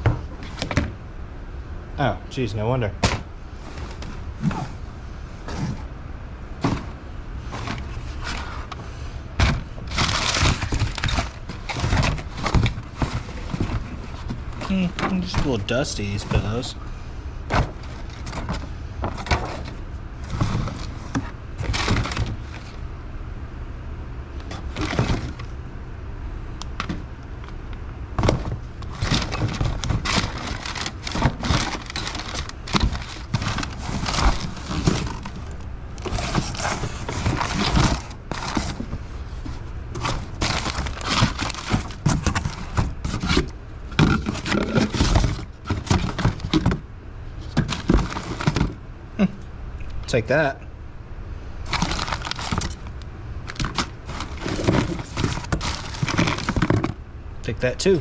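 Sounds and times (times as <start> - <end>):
objects clattering and scraping: 0.0 - 1.0, 3.0 - 22.8, 24.3 - 25.6, 26.7 - 49.5, 51.6 - 57.0
steady low rumble: 0.0 - 58.0.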